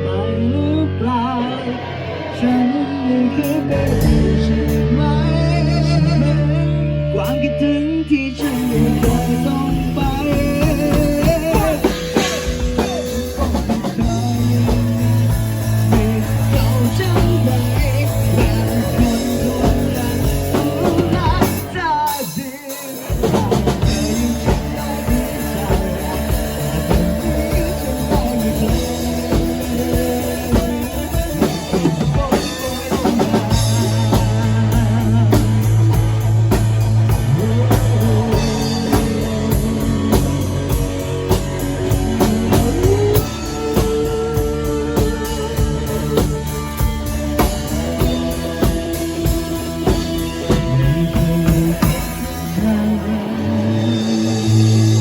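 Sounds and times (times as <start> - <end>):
bass guitar: 0.0 - 55.0
drum kit: 2.2 - 6.6, 8.4 - 55.0.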